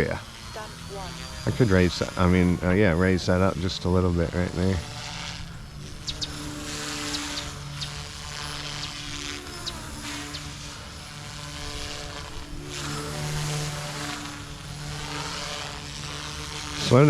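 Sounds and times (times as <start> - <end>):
rc helicopter rotor buzz: 0.0 - 17.0.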